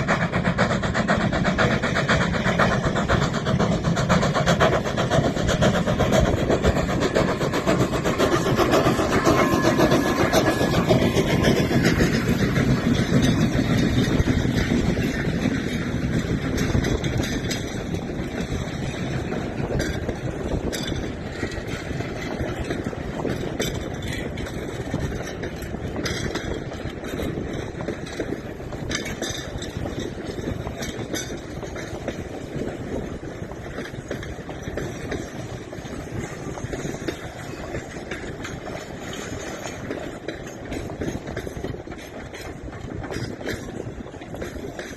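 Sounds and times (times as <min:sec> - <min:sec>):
locomotive running roughly: 0:00.0 - 0:44.9.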